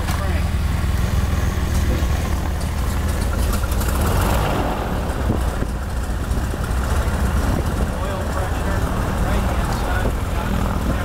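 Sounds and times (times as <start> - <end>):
aircraft piston engine idling: 0.0 - 11.0.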